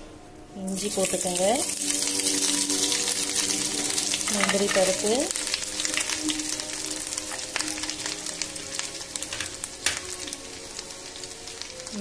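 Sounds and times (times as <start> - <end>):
food sizzling in hot oil: 0.6 - 12.0.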